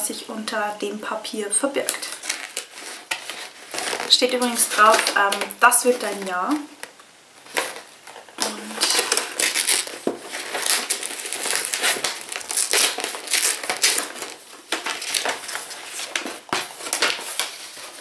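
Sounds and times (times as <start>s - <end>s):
paper crinkling and rustling: 1.7s - 18.0s.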